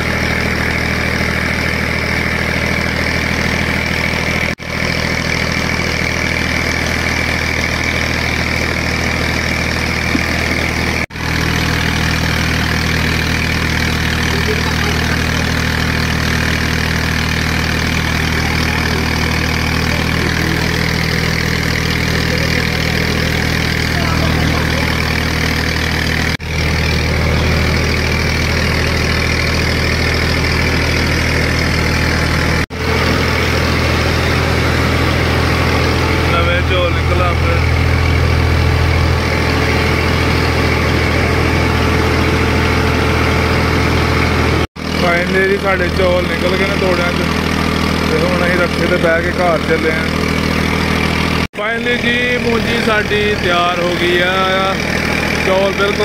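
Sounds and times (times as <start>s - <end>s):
engine hum: 0.0s - 56.0s
grain streaming through machine: 0.0s - 56.0s.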